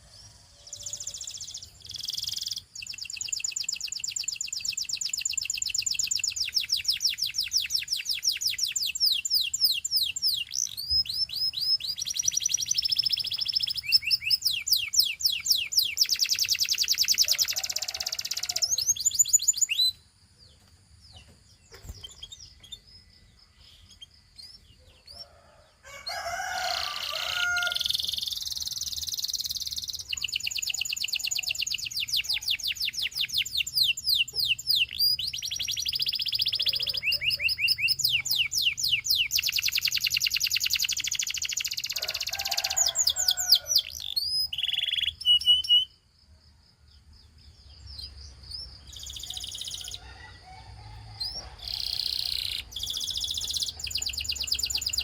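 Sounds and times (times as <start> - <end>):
canary singing rapid trills: 0.0 - 20.1, 21.2 - 46.1, 47.8 - 50.4, 51.1 - 55.0.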